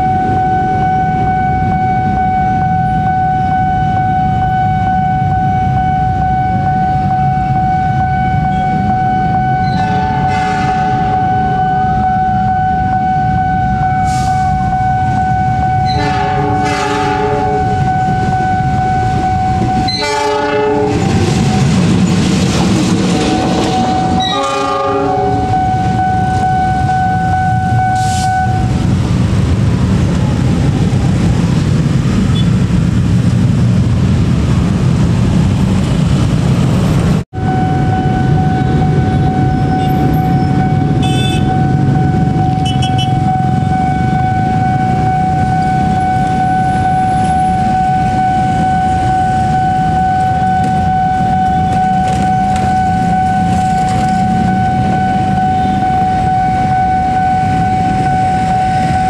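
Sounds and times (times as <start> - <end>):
train horn blasts: 0.0 - 21.7, 23.2 - 28.7, 37.4 - 59.0
level crossing warning tone: 0.0 - 33.0, 36.8 - 59.0
train rumbling past: 6.1 - 59.0.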